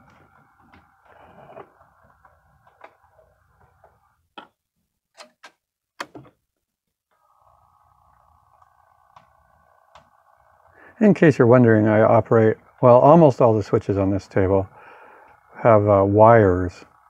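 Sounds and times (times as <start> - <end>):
model locomotive motor whine: 0.0 - 4.2, 7.1 - 17.0.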